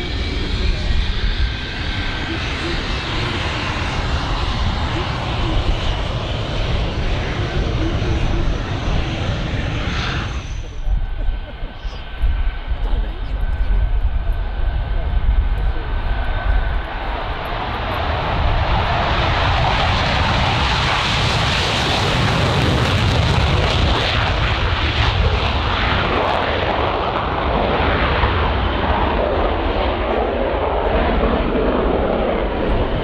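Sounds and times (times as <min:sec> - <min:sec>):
loud jet engine crackling: 0:00.0 - 0:14.1, 0:14.7 - 0:33.0.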